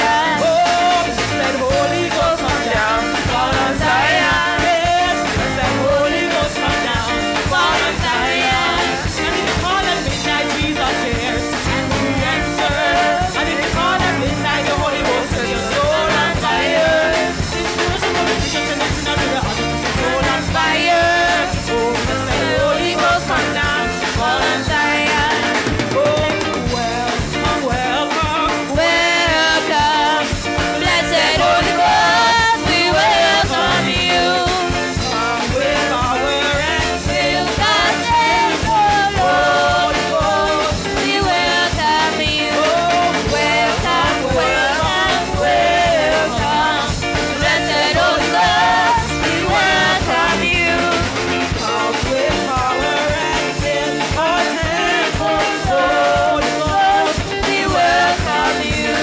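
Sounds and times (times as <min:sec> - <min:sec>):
band with drum kit: 0:00.0 - 0:59.0
women singing into microphones: 0:00.0 - 0:59.0.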